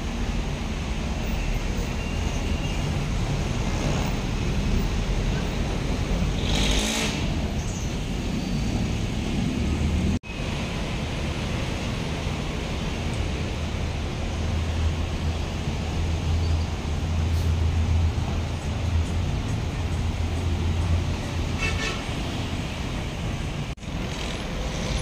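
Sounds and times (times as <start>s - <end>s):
diesel engines in traffic: 0.0s - 25.0s.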